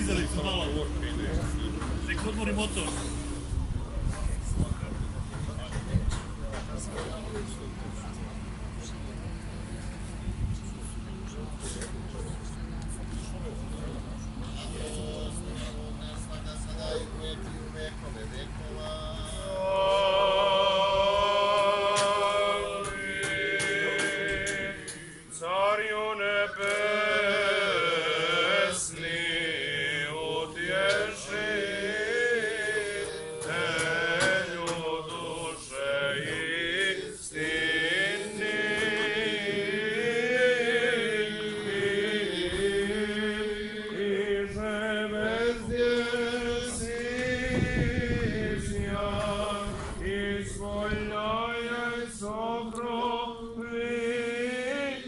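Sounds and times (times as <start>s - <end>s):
men chanting a hymn: 0.0s - 3.5s, 13.0s - 55.0s
steady low drone: 0.0s - 5.6s, 7.6s - 55.0s.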